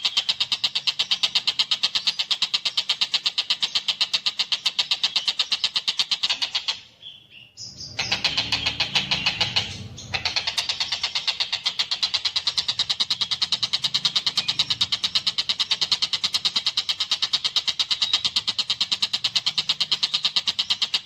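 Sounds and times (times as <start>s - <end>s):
bird harsh rattling chatter: 0.0s - 6.8s, 7.9s - 21.0s.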